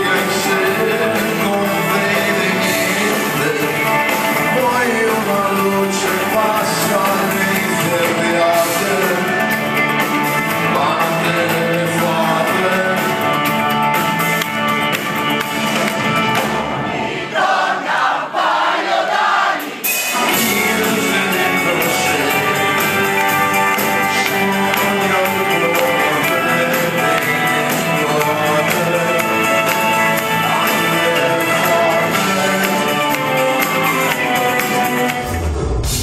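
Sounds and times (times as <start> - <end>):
man singing: 0.0 - 14.0, 20.0 - 35.4
live rock band playing: 0.0 - 17.2, 19.6 - 36.0.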